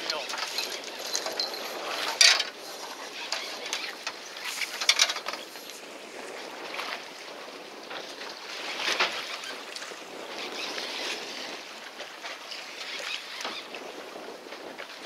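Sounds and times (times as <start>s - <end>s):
sea water splashing around boat: 0.0s - 15.0s
wind on microphone: 0.0s - 15.0s.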